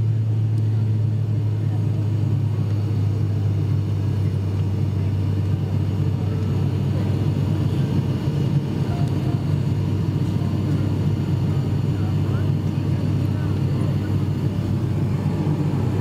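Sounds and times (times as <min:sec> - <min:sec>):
low hum: 0:00.0 - 0:16.0
turboprop engines droning in cabin: 0:00.0 - 0:16.0.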